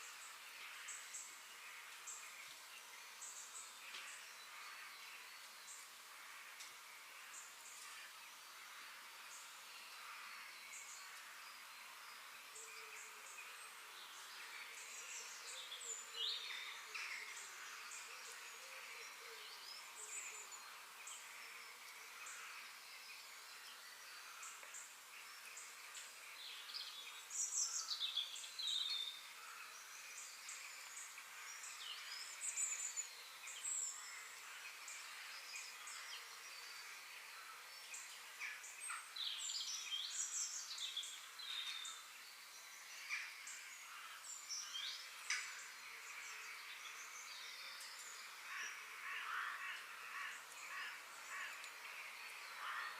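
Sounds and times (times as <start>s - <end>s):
birds chirping and trilling: 0.0s - 52.9s
faint outdoor hiss: 0.0s - 52.9s.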